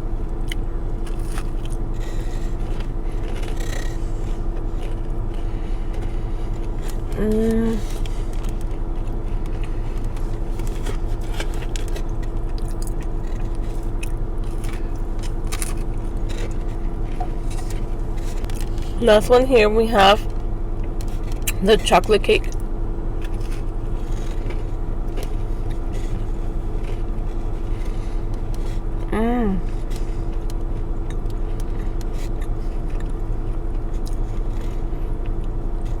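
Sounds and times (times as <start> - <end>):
crunchy chewing: 0.0 - 19.0, 20.2 - 36.0
steady low hum: 0.0 - 36.0.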